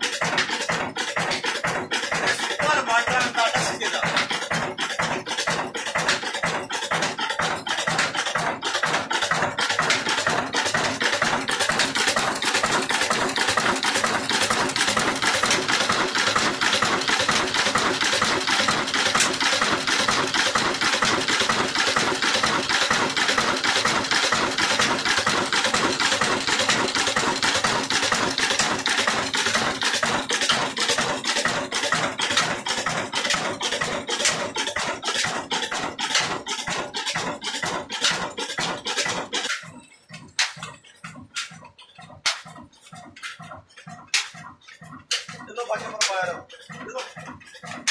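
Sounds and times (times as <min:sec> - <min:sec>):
diesel engine clattering: 0:00.0 - 0:47.9.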